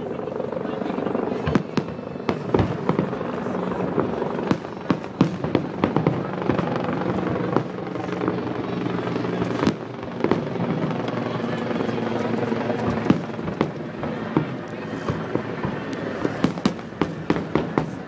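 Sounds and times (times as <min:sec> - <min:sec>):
crowd voices: 0:00.0 - 0:18.0
firework bangs: 0:01.4 - 0:18.0.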